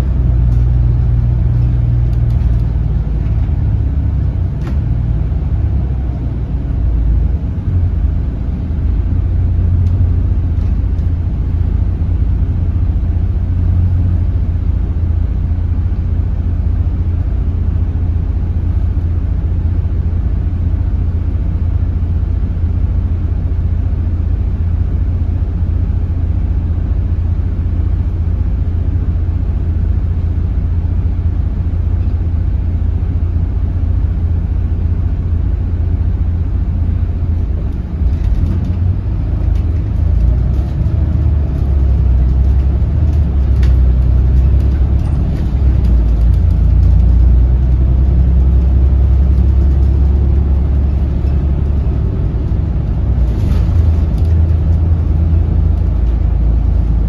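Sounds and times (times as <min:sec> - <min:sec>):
bus diesel engine idling: 0:00.0 - 0:57.0
bus engine accelerating: 0:00.0 - 0:57.0.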